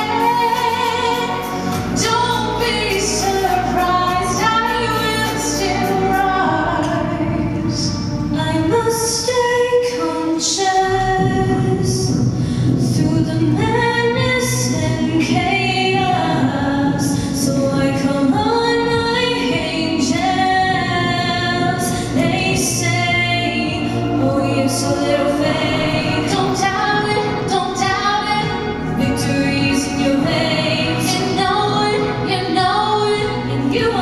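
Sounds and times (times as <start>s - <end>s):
two girls singing a duet: 0.0s - 34.0s.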